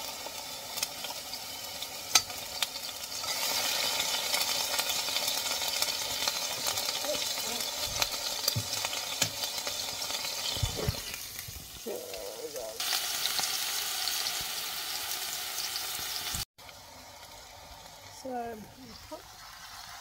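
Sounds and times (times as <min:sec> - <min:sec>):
garlic sizzling in hot oil: 0:00.0 - 0:20.0.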